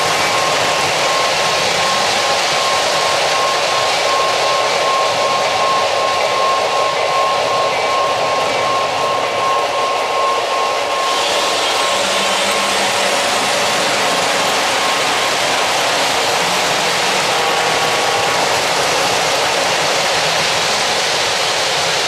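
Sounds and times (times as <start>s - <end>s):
model train passing close: 0.0s - 22.0s
model train rolling hum: 0.0s - 22.0s.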